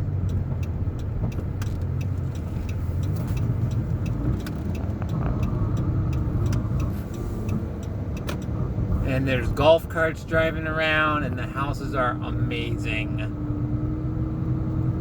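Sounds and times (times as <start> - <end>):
light regular ticking: 0.0 - 12.7
engine and road rumble: 0.0 - 15.0.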